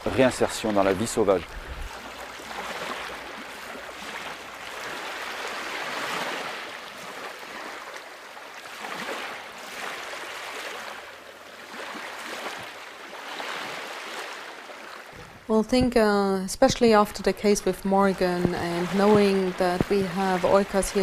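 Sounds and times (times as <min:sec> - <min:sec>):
waves washing against rocks: 0:00.0 - 0:15.2, 0:17.5 - 0:21.0.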